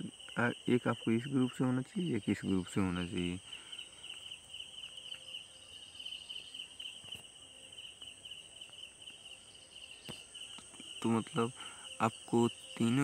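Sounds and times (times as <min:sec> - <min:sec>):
high steady hiss: 0:00.0 - 0:13.0
insects trilling: 0:00.0 - 0:13.0.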